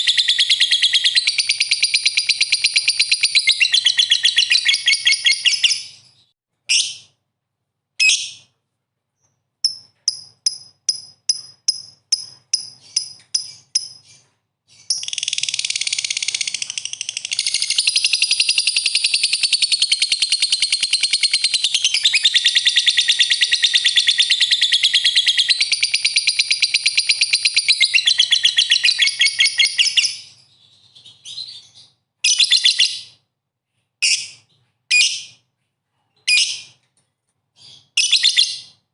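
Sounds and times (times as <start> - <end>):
lovebird chirping and chattering: 0.0 - 7.1, 8.0 - 8.5, 9.6 - 33.2, 34.0 - 35.4, 36.2 - 36.8, 37.6 - 38.8.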